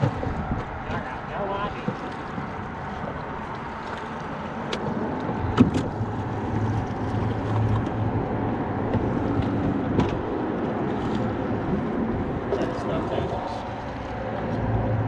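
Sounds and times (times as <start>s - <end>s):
water and wind wash: 0.0s - 15.0s.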